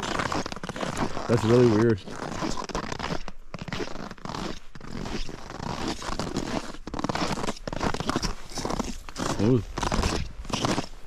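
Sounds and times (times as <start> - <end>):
footsteps crunching on snow: 0.0 - 11.0.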